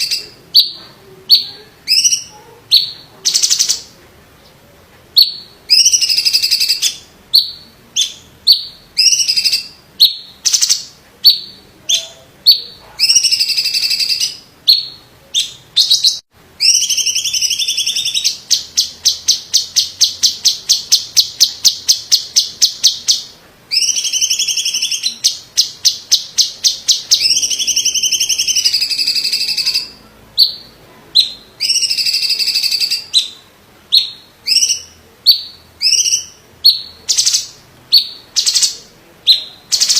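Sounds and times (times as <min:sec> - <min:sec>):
bird singing whistled notes: 0:05.2 - 0:39.9.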